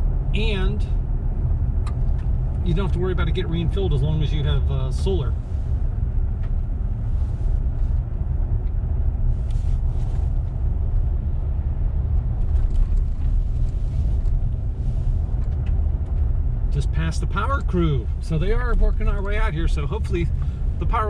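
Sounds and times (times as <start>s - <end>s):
vehicle interior road rumble: 0.0s - 21.0s.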